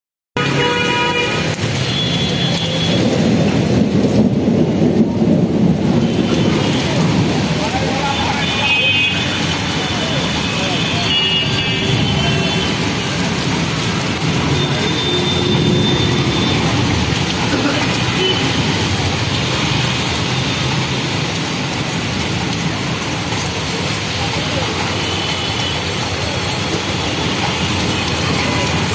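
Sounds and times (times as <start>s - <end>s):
heavy storm rain rumbling: 0.4s - 28.9s.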